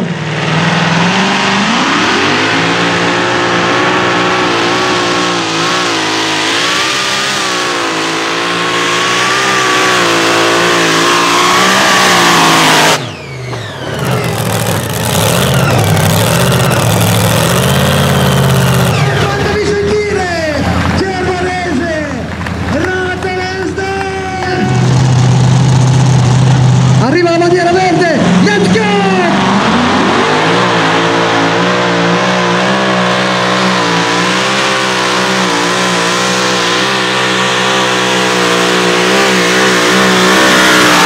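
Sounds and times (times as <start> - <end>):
rough low engine: 0.0 - 41.0
tractor engine revving: 0.0 - 41.0.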